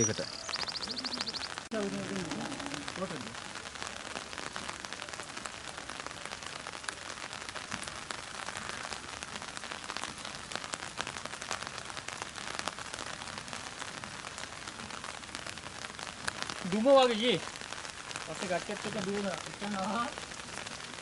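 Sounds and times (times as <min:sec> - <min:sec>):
rain hissing: 0:00.0 - 0:21.0
raindrop hits: 0:00.0 - 0:21.0.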